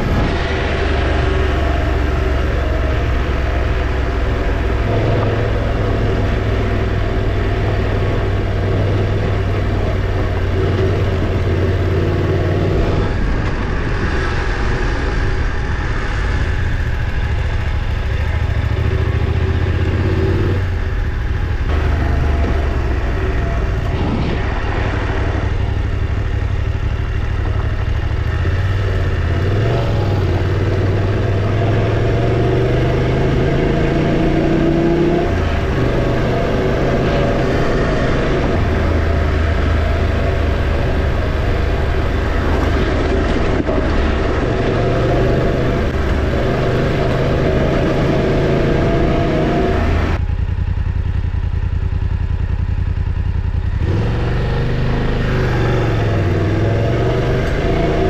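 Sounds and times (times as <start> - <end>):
riding wind noise: 0.0 - 50.4
motorcycle engine accelerating: 0.0 - 58.0.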